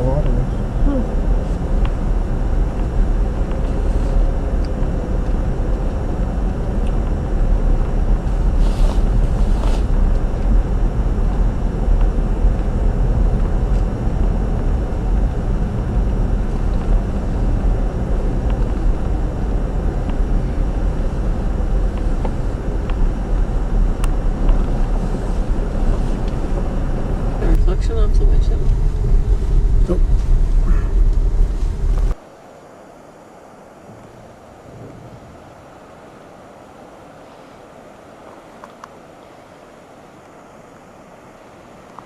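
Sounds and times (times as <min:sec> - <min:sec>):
car driving rumble: 0:00.0 - 0:32.3, 0:33.0 - 0:42.0.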